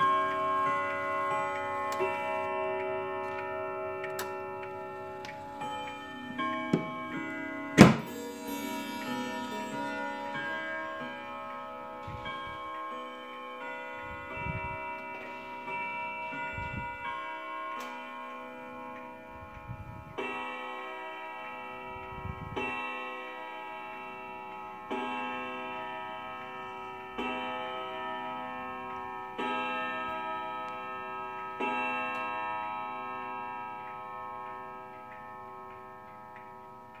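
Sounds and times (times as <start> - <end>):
clock chime strokes ringing: 0.0 - 37.0.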